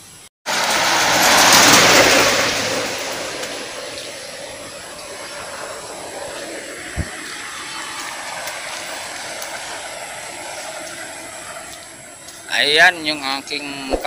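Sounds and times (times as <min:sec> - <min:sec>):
truck driving past: 0:00.5 - 0:13.5.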